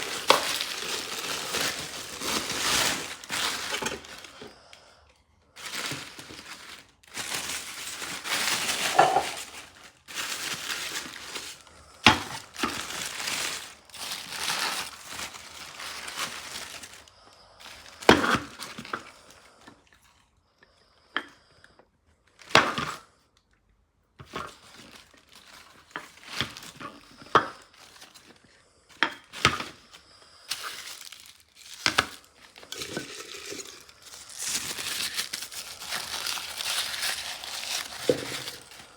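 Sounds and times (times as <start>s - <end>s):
packaging crinkling and tearing: 0.0s - 19.6s, 24.3s - 38.9s.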